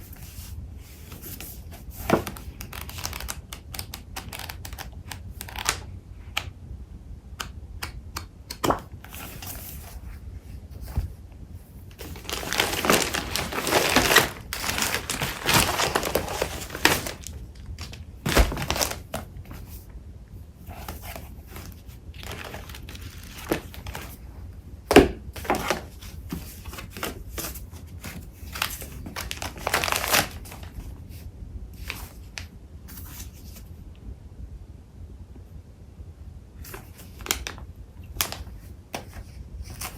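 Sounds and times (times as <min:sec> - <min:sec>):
paper rustling and crinkling: 0:00.0 - 0:05.8, 0:08.6 - 0:19.9, 0:20.6 - 0:24.3, 0:24.9 - 0:31.2, 0:31.8 - 0:33.7, 0:36.6 - 0:39.9.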